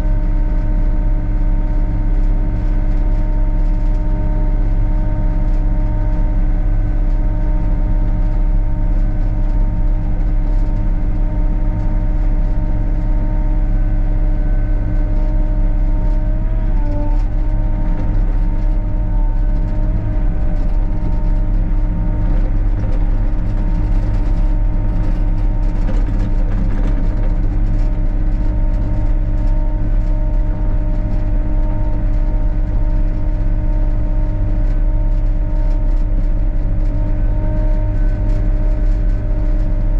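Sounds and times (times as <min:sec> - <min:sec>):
excavator diesel engine running: 0:00.1 - 0:39.9.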